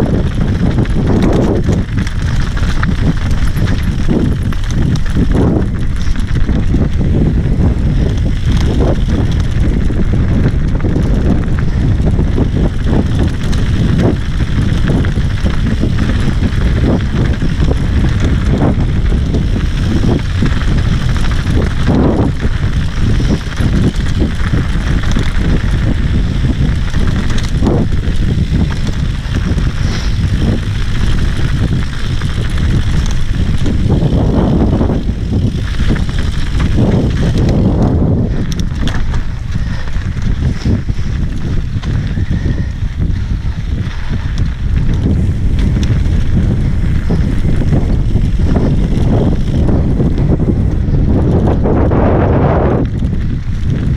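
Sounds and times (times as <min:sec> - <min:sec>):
bike rattles and knocks: 0:00.0 - 0:53.9
wind rush and tyre rumble: 0:00.0 - 0:53.9.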